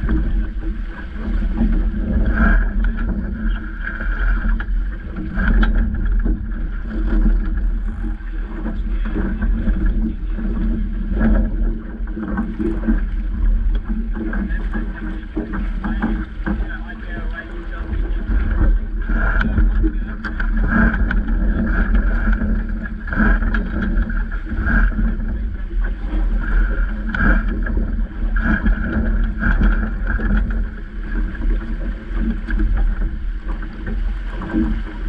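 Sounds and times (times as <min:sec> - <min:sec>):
water rushing along hull: 0:00.0 - 0:35.0
wind buffeting microphone: 0:00.0 - 0:35.0.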